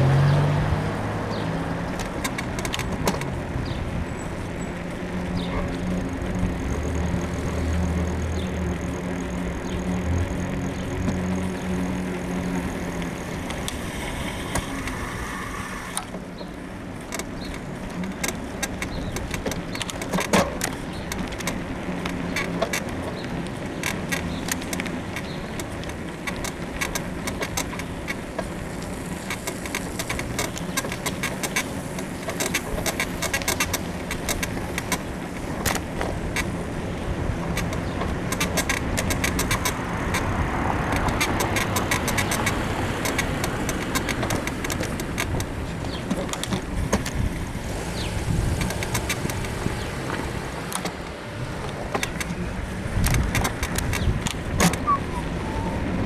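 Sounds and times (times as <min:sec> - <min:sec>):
bicycle suspension creaking and clicking: 0:00.0 - 0:56.0
vehicle engine hum: 0:00.0 - 0:56.0.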